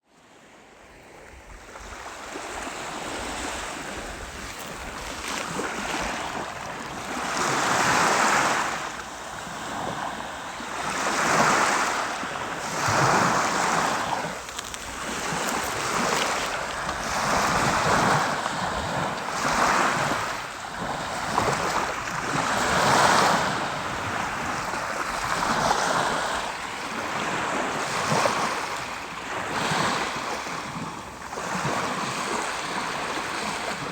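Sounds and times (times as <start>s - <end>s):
sea waves breaking on shore: 0.3s - 33.9s.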